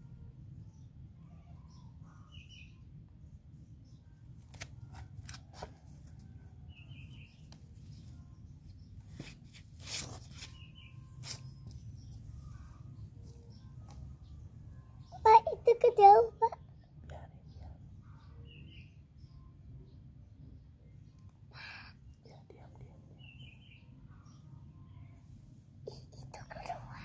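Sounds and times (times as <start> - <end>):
faint bird chirps: 0.0 - 4.3, 5.0 - 27.0.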